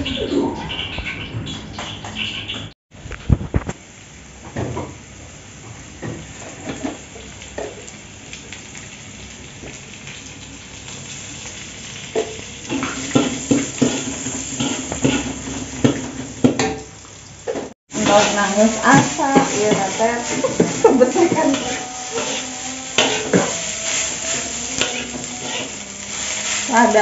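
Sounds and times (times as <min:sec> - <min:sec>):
oil sizzling in a wok: 0:03.3 - 0:27.0.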